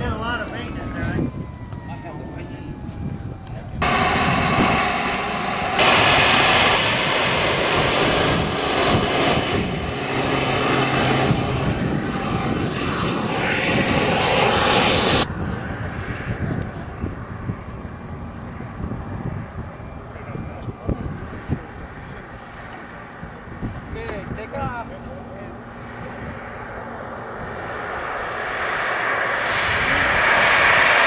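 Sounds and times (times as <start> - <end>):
model jet turbine whine: 0.0 - 31.0.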